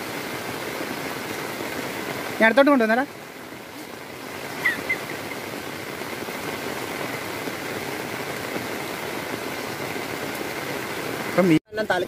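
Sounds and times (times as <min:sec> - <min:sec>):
rain on an umbrella: 0:00.0 - 0:12.0.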